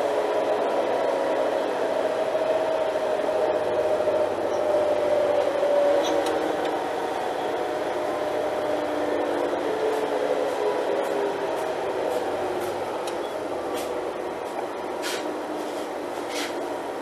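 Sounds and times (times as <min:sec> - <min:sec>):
train engine drone and whine: 0:00.0 - 0:17.0.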